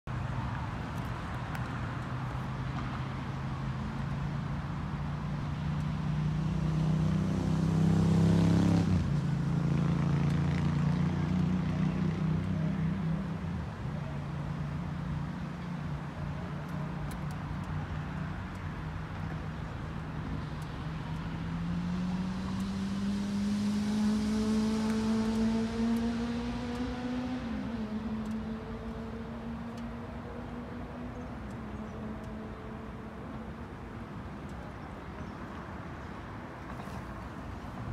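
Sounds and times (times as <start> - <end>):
motorcycle engine idling and revving: 0.1 - 37.9.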